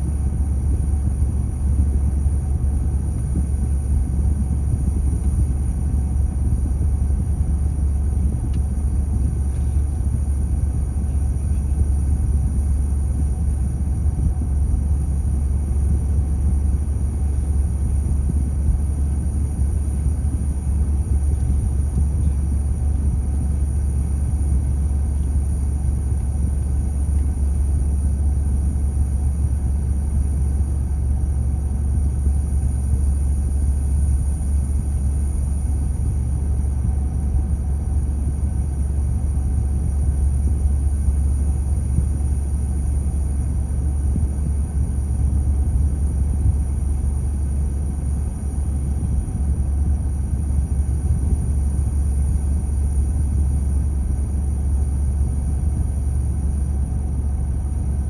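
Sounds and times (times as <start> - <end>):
car idling low rumble: 0.0 - 58.0.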